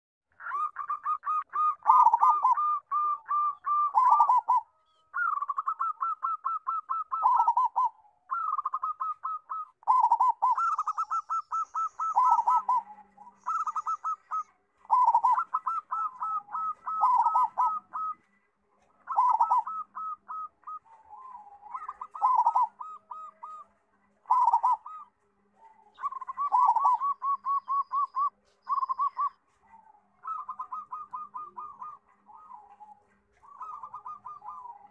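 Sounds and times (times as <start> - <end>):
dove cooing: 0.4 - 34.9.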